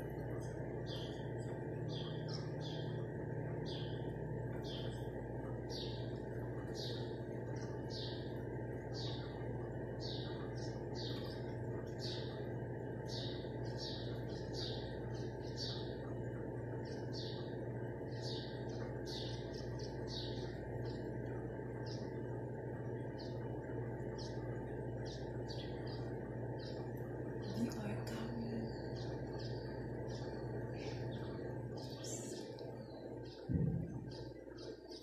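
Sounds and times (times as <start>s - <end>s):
low hum: 0.0s - 35.0s
small birds chirping: 0.0s - 35.0s.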